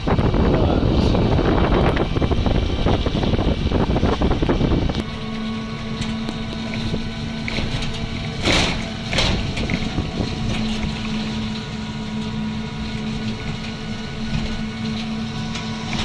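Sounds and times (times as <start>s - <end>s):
vehicle rumble and hum: 0.0s - 16.0s.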